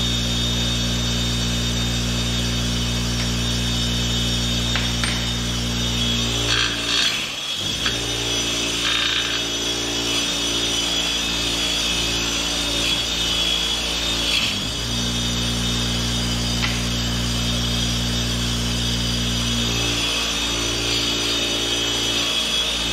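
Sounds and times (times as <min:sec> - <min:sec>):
bench grinder motor hum: 0:00.0 - 0:22.9.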